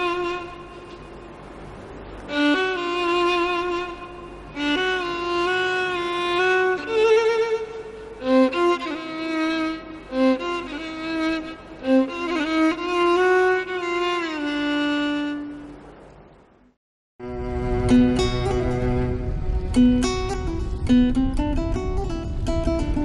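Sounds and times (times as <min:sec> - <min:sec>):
mournful bowed string melody: 0:00.0 - 0:16.1, 0:17.2 - 0:23.0.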